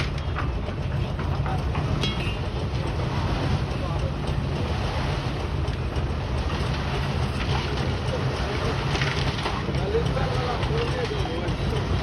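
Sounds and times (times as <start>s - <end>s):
pile-driving machinery rumbling: 0.0s - 12.0s.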